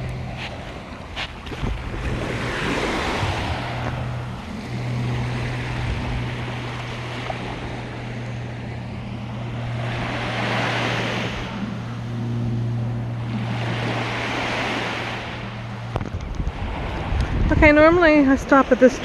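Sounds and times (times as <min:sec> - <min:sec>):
ocean waves washing ashore: 0:00.0 - 0:19.0
steady low hum: 0:00.0 - 0:19.0.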